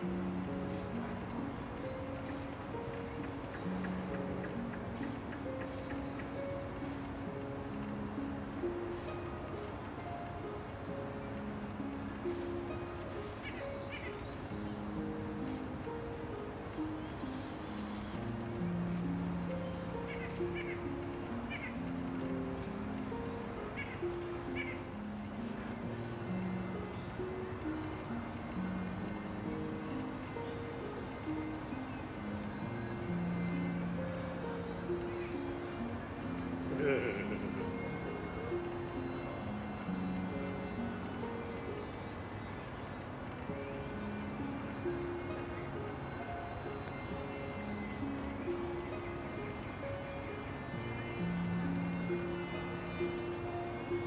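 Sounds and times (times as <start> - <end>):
crickets trilling: 0.0 - 54.0
slow background music: 0.0 - 54.0.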